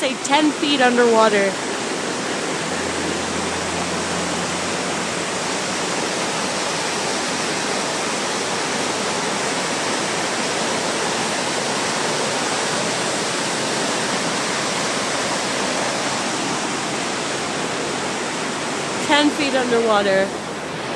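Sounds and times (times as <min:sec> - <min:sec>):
flooded creek rushing: 0:00.0 - 0:20.9.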